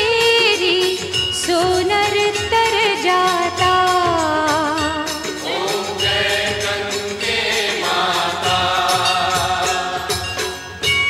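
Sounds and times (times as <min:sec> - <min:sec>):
instrumental backing: 0:00.0 - 0:11.0
percussion beat: 0:00.0 - 0:11.0.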